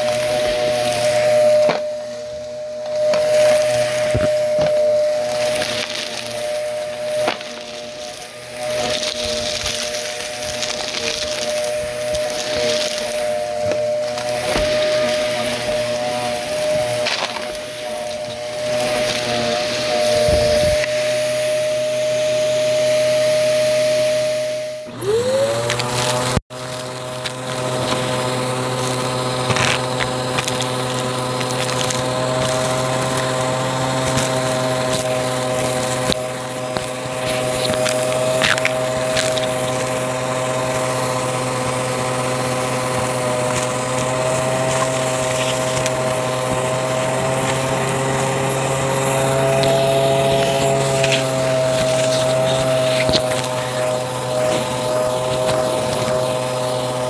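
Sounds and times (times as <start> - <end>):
debris crackling in vacuum: 0.0 - 23.3, 25.0 - 57.0
vacuum cleaner motor whining: 0.0 - 57.0.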